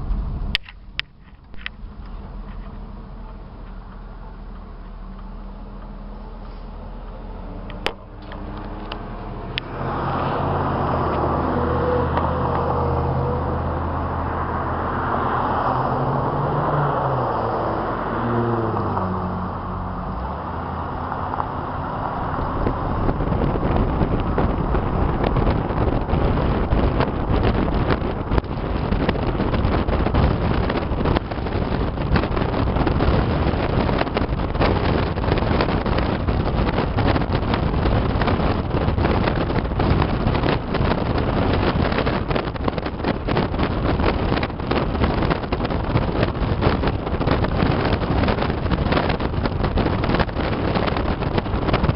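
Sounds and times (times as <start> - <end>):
car engine accelerating: 0.0 - 51.9
road noise: 0.0 - 51.9
wind buffeting microphone: 5.8 - 51.9.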